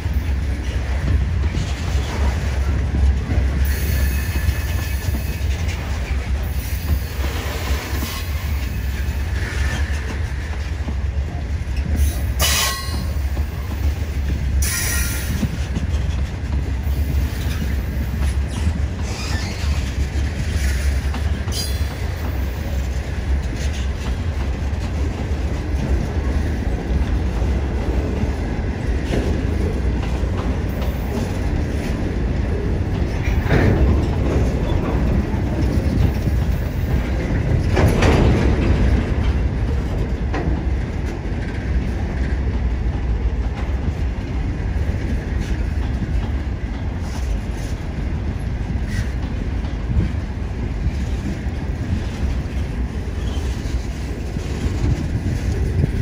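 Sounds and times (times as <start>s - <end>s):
clacks over rail joints: 0.0s - 56.0s
train wheels rumbling on rail: 0.0s - 56.0s.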